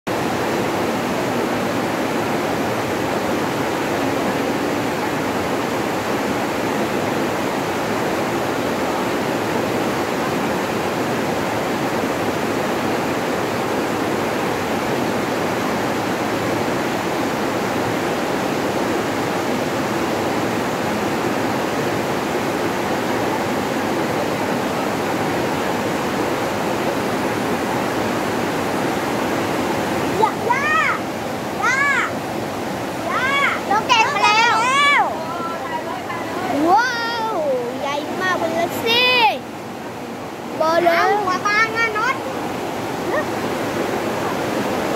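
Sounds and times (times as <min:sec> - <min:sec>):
river rushing through rapids: 0:00.1 - 0:44.9.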